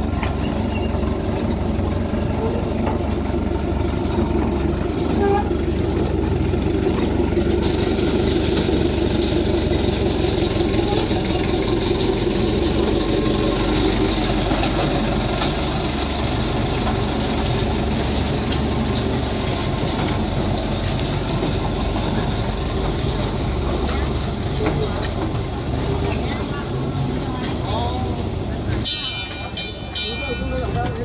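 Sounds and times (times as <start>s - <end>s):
locomotive low running drone: 0.0s - 31.0s
wheels rattling on track: 0.0s - 31.0s.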